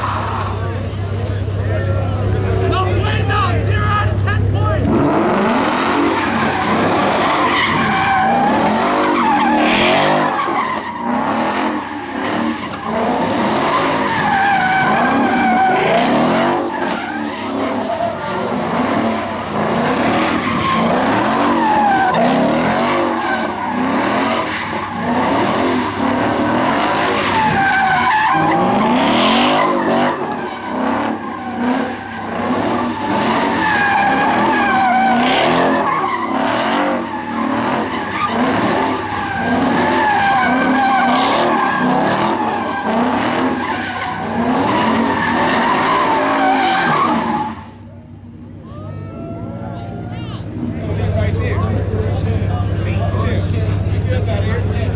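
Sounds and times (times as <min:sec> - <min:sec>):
engine revving: 0:00.0 - 0:47.3, 0:50.5 - 0:54.9
tires squealing: 0:00.0 - 0:54.9.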